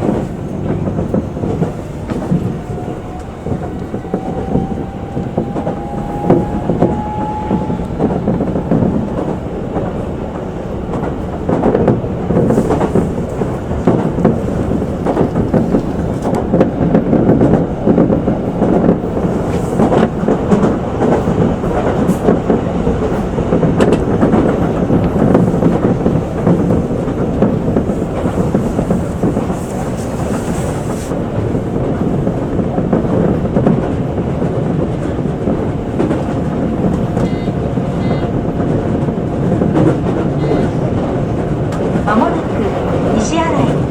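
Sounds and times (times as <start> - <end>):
wheels clicking over rail joints: 0.0 - 43.4
train wheels rumbling on rails: 0.0 - 43.9.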